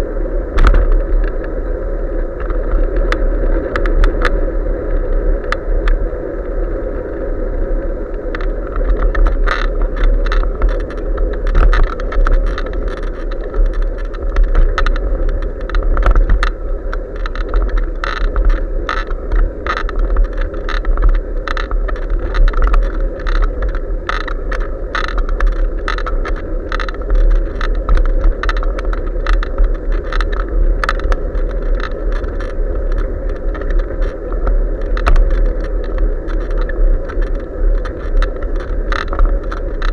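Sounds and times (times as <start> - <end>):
bicycle tyres on asphalt: 0.0 - 39.9
wind rumble: 0.0 - 39.9.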